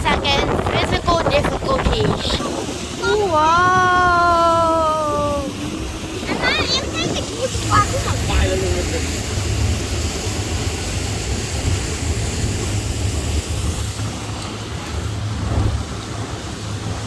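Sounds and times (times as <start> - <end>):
motorboat engine rumble: 0.0 - 17.0
wind buffeting microphone: 0.0 - 17.0.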